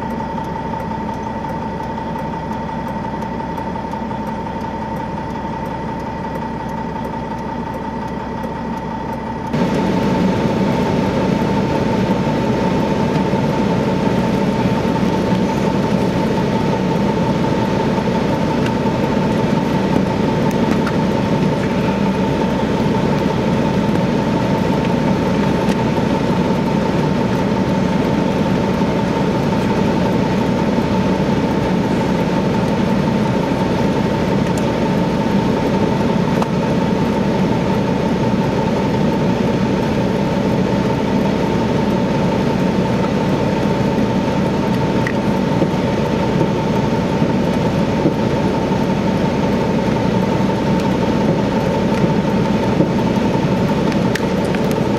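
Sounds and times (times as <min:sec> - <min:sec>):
diesel truck engine idling: 0:00.0 - 0:54.9
steady whine: 0:00.0 - 0:54.9.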